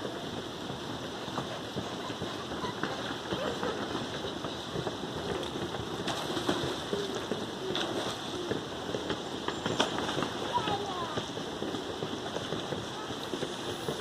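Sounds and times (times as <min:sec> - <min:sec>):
swimmer splashing water: 0:00.0 - 0:14.0.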